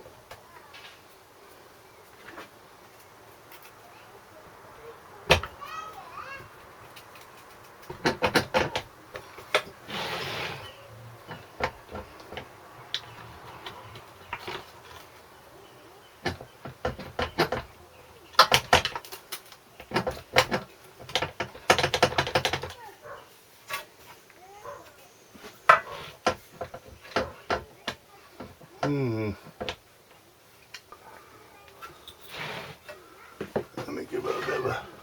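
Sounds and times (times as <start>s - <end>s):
hand tools and metal parts clattering: 5.3s - 29.8s, 30.6s - 35.0s.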